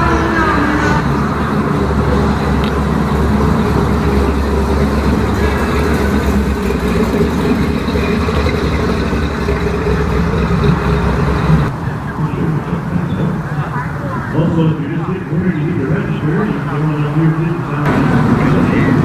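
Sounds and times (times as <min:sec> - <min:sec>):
deep car engine running: 0:00.0 - 0:19.0.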